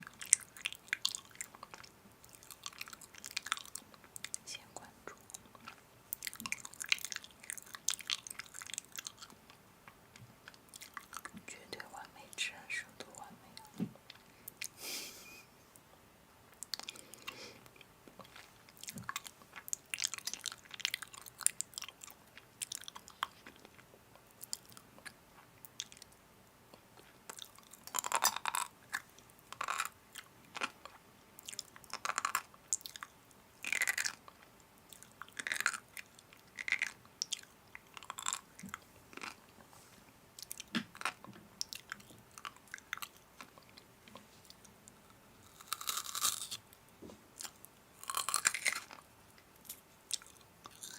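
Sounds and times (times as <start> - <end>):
crunching and chewing snack food: 0.0 - 11.4, 16.5 - 39.6, 40.4 - 50.9.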